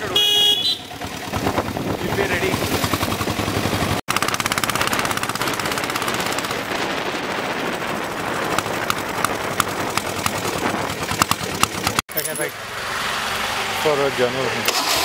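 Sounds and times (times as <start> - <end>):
diesel motorcycle engine running: 0.0 - 15.0.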